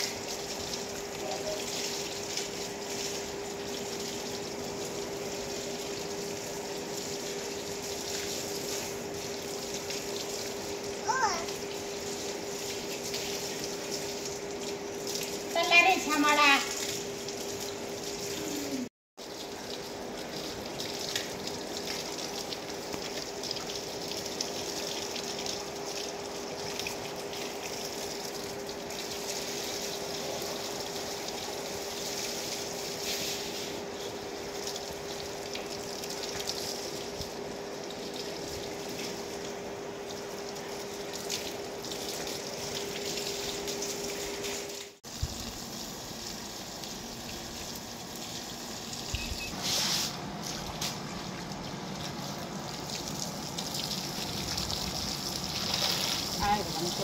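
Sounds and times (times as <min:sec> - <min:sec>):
hose water splashing on pavement: 0:00.0 - 0:57.0.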